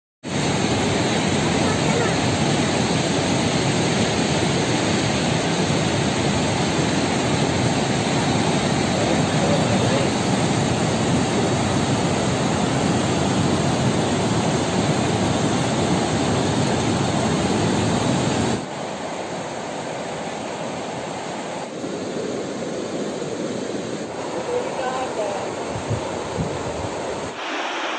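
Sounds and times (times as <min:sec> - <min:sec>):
river water rushing: 0:00.3 - 0:27.9.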